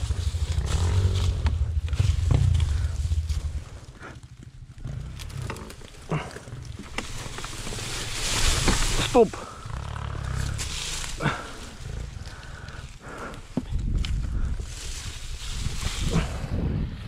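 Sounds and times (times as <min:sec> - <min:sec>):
dirt bike engine rumbling: 0:00.0 - 0:17.0.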